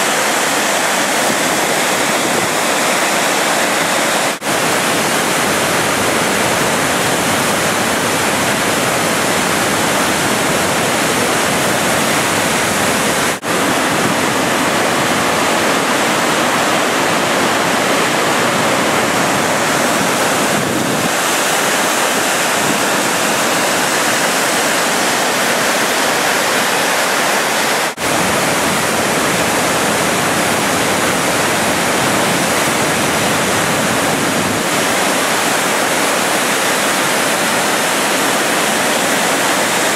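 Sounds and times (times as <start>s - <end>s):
roar of falling water: 0.0s - 39.9s.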